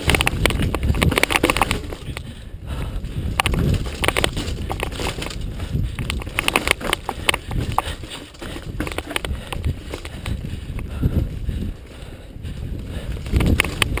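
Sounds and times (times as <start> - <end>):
bicycle clacks and knocks: 0.0 - 12.0, 12.8 - 14.0.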